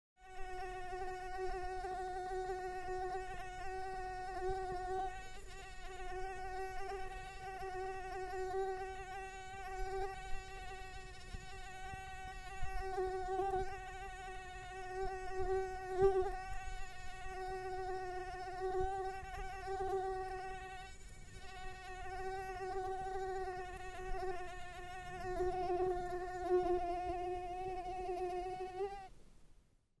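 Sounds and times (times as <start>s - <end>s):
mosquito buzzing: 0.2s - 29.1s.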